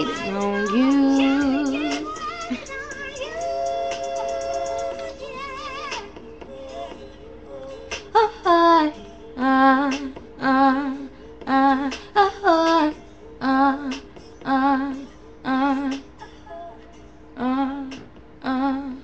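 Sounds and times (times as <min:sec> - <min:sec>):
woman singing wordless notes: 0:00.0 - 0:07.0, 0:07.7 - 0:19.0.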